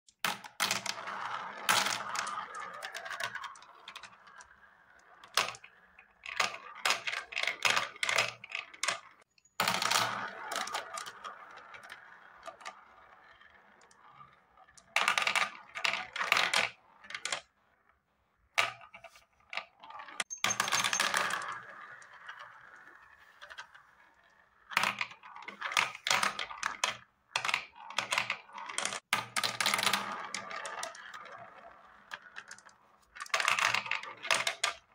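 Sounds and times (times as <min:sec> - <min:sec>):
balls clicking and clattering: 0:00.1 - 0:34.9
balls rolling whirr: 0:00.6 - 0:34.9.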